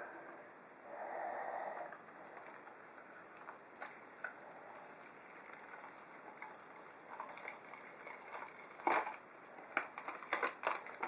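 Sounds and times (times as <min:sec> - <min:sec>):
sticky crackles of peeling latex: 0:01.9 - 0:11.0.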